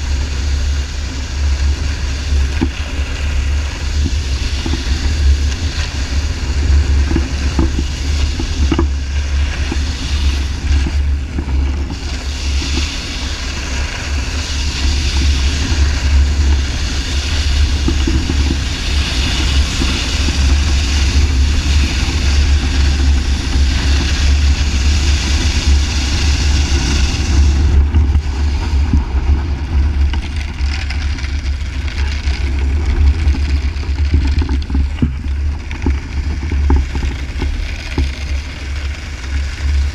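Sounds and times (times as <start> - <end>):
snowboard gliding across ice: 0.0 - 39.9
wind buffeting microphone: 0.0 - 39.9.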